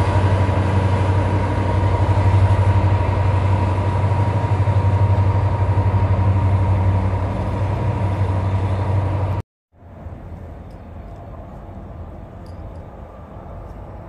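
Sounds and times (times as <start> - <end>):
freight train passing: 0.0 - 14.0.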